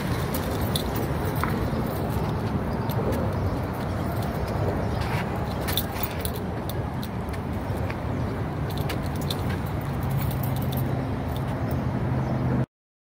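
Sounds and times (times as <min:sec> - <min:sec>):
metallic jingling and clicks: 0:00.0 - 0:07.9, 0:08.5 - 0:11.9.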